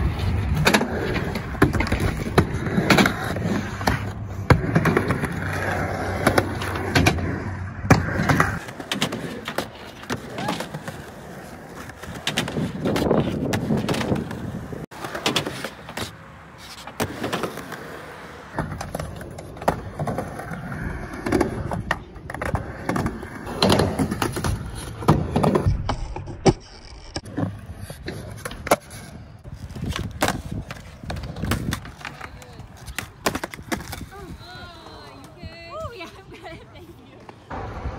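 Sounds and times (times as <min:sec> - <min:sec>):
skateboard clacking on ground: 0:00.0 - 0:36.2
skateboard wheels rolling on concrete: 0:00.0 - 0:37.9.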